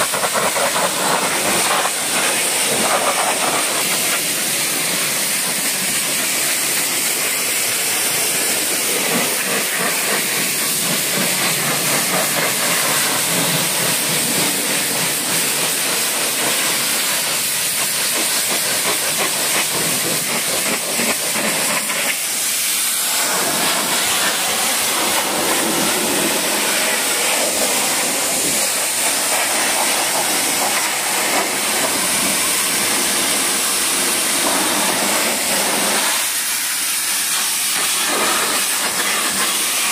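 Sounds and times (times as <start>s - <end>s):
pressure washer spraying car: 0.0s - 39.9s.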